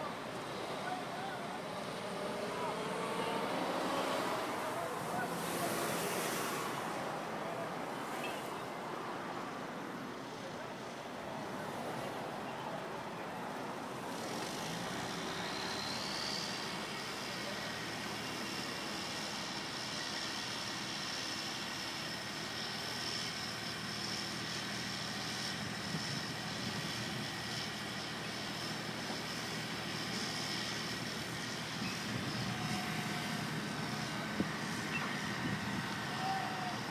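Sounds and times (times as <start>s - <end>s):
crane engine running: 0.0s - 36.9s.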